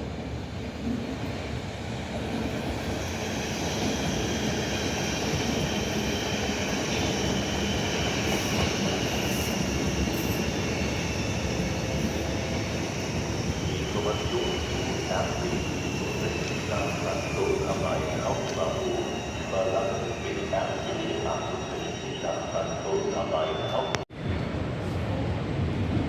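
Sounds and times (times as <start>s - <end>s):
high wheel squeal: 3.0s - 24.0s.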